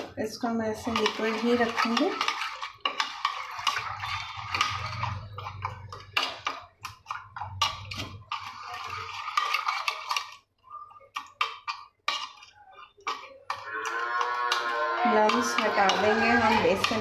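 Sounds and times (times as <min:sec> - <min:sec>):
metal spoon beating batter in bowl: 0:00.0 - 0:17.0.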